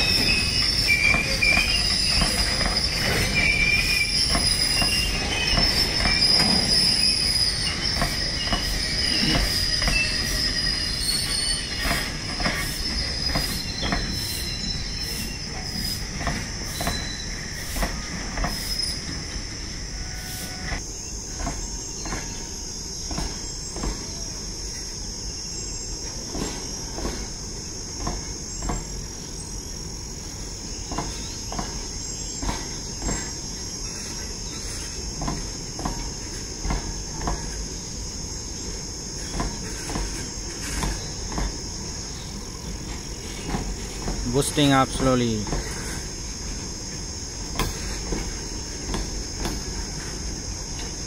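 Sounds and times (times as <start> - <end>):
freight train wheels knocking: 0.0 - 14.8, 15.5 - 19.5, 26.0 - 29.3, 30.2 - 37.9, 38.9 - 51.0
low rumble of train: 0.0 - 51.0.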